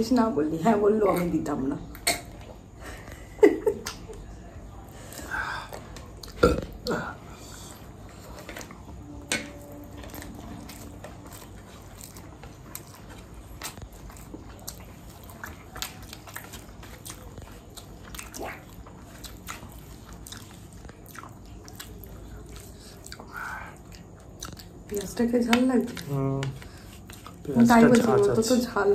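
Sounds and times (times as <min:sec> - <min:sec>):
person chewing and crunching: 0:05.1 - 0:28.5.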